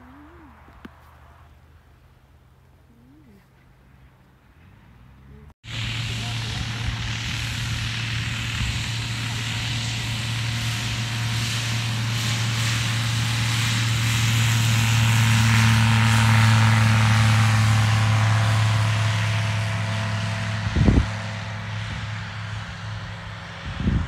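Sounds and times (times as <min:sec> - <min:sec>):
propeller aircraft engine droning: 0:04.3 - 0:24.0.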